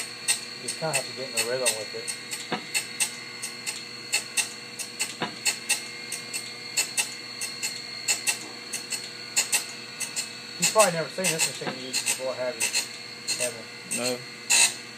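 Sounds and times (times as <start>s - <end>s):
grinder spindle whine: 0.0s - 14.9s.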